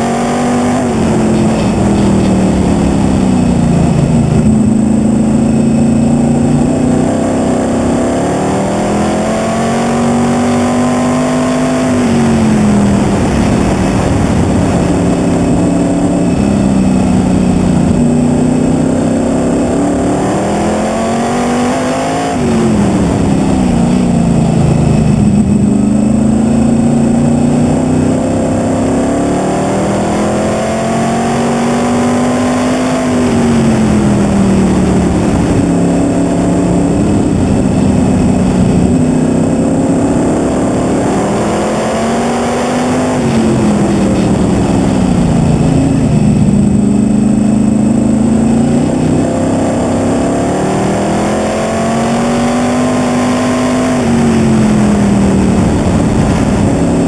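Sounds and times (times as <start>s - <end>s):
racing car engine: 0.0s - 57.0s.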